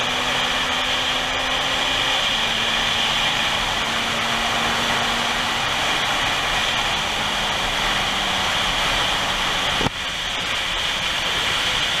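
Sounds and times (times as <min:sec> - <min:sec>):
road noise: 0:00.0 - 0:12.0
rushing wind: 0:00.0 - 0:12.0.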